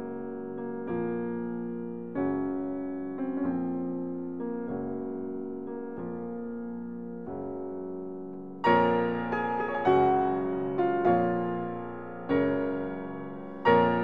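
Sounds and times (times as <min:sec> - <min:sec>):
held piano chords: 0:00.0 - 0:14.0.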